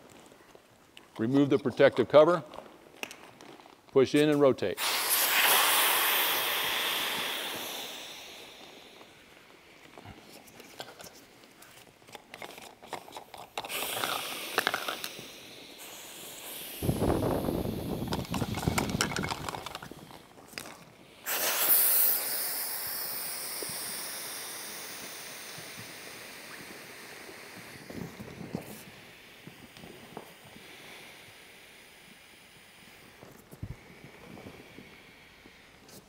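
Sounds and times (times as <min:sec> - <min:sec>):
air hissing from valves: 0:04.2 - 0:36.0.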